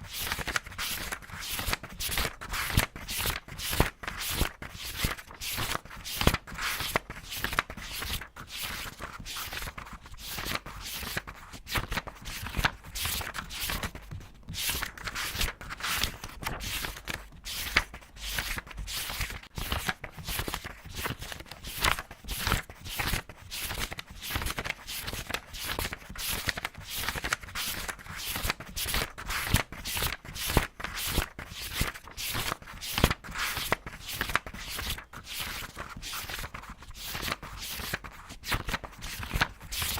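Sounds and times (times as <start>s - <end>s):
paper pages turning: 0.0s - 39.9s.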